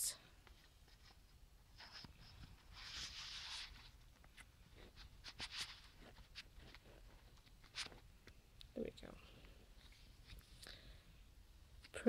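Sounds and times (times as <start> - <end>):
faint paper rustling: 0.3 - 8.4, 9.2 - 10.9.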